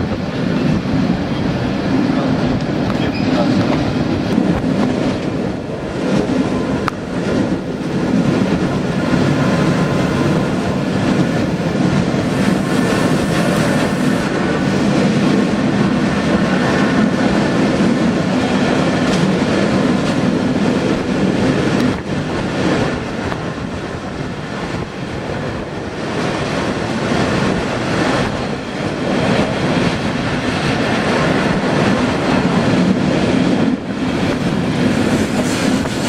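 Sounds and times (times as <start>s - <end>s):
train running along track: 0.0s - 36.0s.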